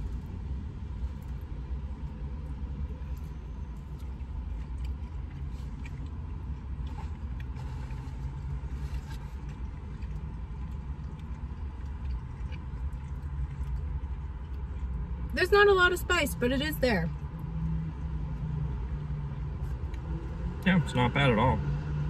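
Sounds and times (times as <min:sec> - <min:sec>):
low rumble inside car: 0:00.0 - 0:22.0.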